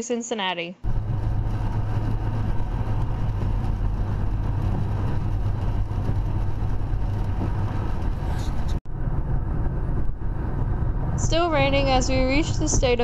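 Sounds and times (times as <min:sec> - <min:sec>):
car engine and tyre hum: 0:00.8 - 0:13.0
road noise: 0:00.8 - 0:13.0.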